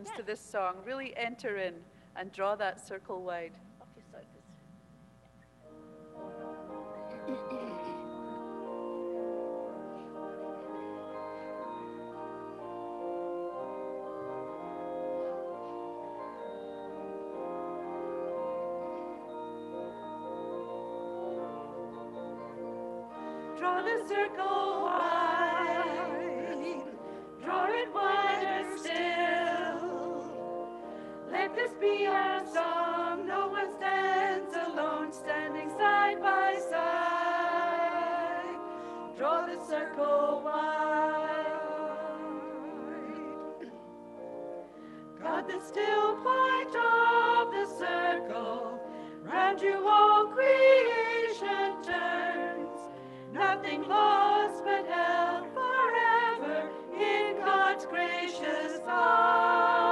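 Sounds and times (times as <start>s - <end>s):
keyboard chords: 4.5s - 59.9s
person singing a hymn: 5.7s - 59.9s.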